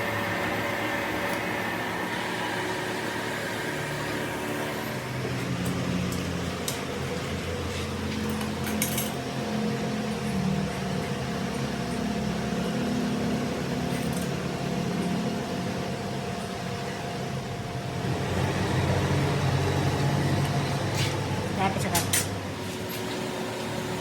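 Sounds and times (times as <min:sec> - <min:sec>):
machinery humming: 0:00.0 - 0:24.0.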